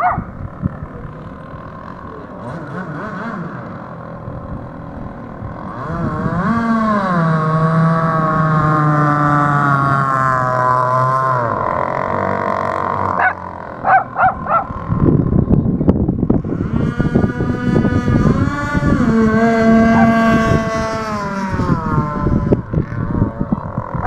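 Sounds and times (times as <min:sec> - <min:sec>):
toy boat motor whining: 0:00.0 - 0:15.4, 0:16.4 - 0:24.0
rough rumbling noise: 0:00.0 - 0:24.0.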